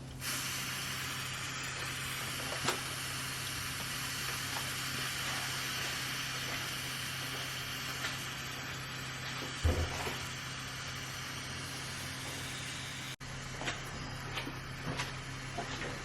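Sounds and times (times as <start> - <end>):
steady hiss: 0.2 - 13.2.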